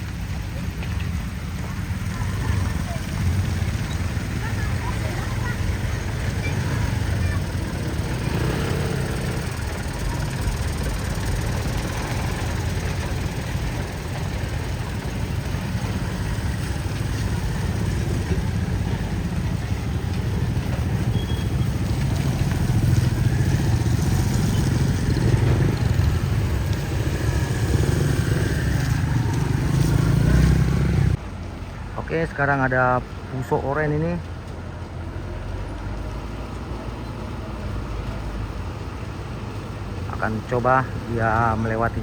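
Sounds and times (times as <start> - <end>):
vehicle engines rumbling: 0.0 - 42.0.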